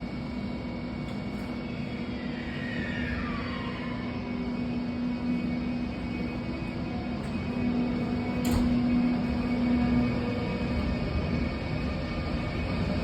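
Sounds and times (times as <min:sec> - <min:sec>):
electric locomotive whine: 0:00.0 - 0:13.0
low electrical hum: 0:00.0 - 0:13.0.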